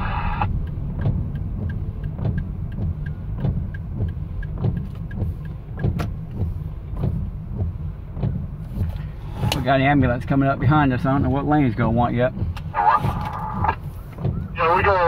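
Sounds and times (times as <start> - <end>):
tyre noise on wet road: 0.0 - 15.0
windshield wipers squeaking: 0.1 - 15.0
faint regular ticking: 0.5 - 12.7.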